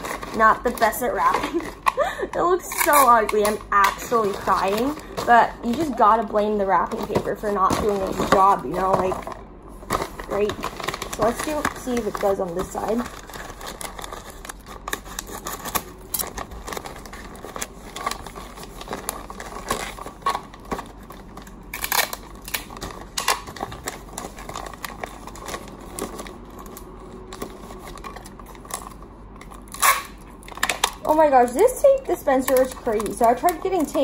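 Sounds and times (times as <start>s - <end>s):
wrapping paper crinkling: 0.0s - 34.0s.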